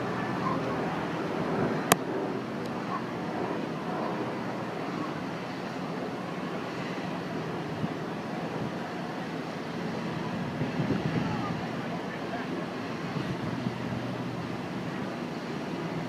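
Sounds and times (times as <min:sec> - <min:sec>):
distant city traffic rumble: 0:00.0 - 0:16.0
harbour ambience: 0:00.0 - 0:16.0.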